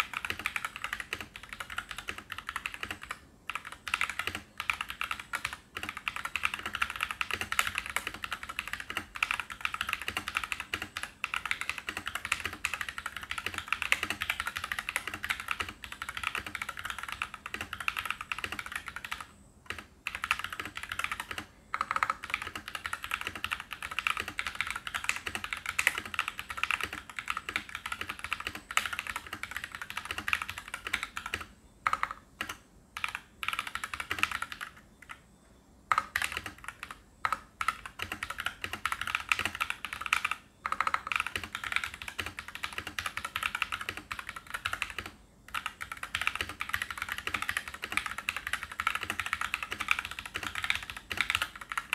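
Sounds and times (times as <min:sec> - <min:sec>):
mechanical keyboard typing: 0:00.0 - 0:35.3, 0:35.9 - 0:51.9.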